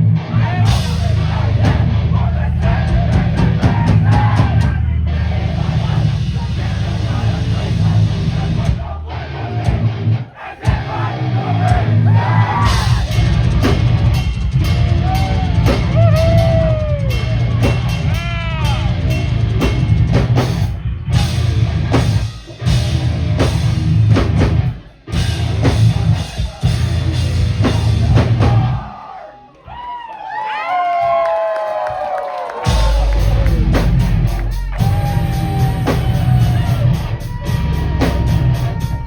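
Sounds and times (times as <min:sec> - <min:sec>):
live heavy metal band: 0:00.0 - 0:28.9, 0:32.6 - 0:39.0.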